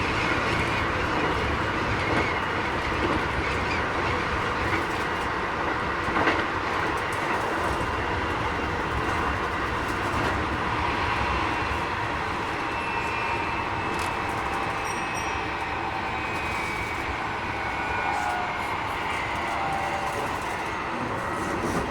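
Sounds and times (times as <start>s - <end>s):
wheels rumbling on rail: 0.0s - 21.9s.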